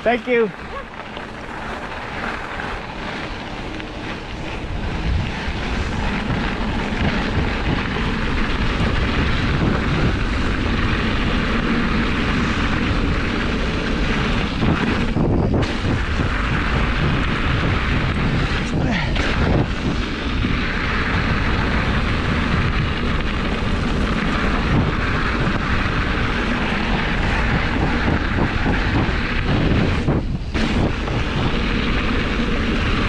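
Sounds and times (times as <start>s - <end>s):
bike tyre rumble: 0.0s - 33.0s
wind rushing over microphone: 0.0s - 33.0s.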